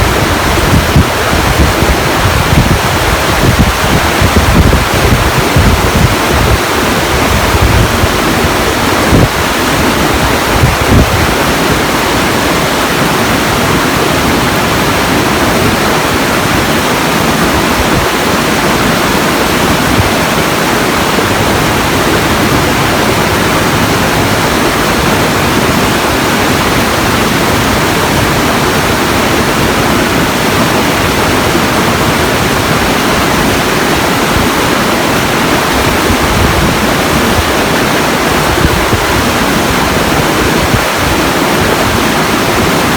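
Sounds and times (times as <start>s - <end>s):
loud rush of water: 0.0s - 42.9s
wind gusts on microphone: 0.0s - 42.9s.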